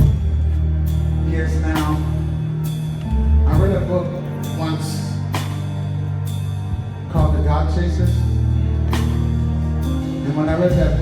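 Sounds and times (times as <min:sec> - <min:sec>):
gospel band playing: 0:00.0 - 0:11.0.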